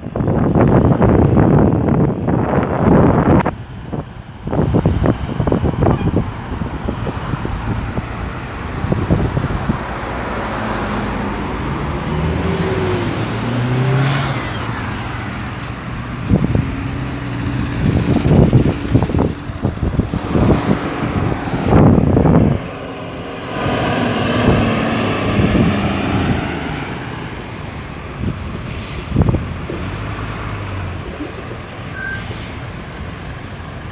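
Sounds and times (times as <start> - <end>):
vehicles passing: 0.0 - 33.9.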